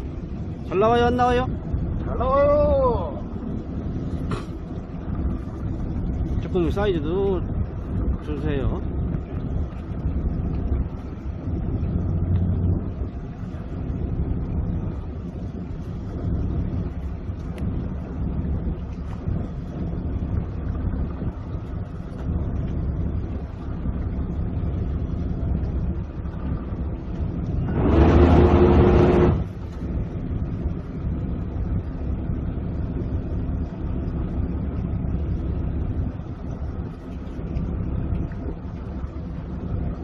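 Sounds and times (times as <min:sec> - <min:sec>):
boat engine rumbling: 0:00.0 - 0:40.0
wind on microphone: 0:00.0 - 0:40.0.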